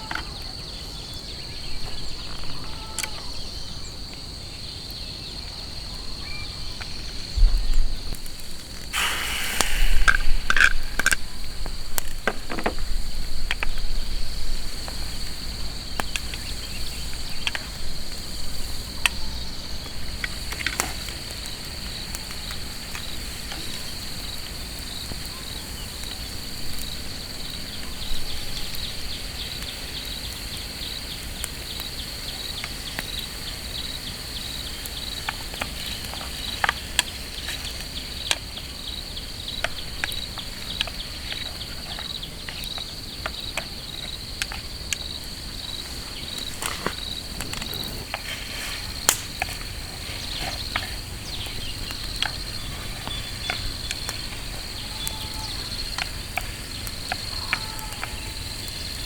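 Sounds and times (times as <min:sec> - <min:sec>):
insects chirping: 0:00.0 - 0:59.0
raindrops hitting tent: 0:06.8 - 0:59.0.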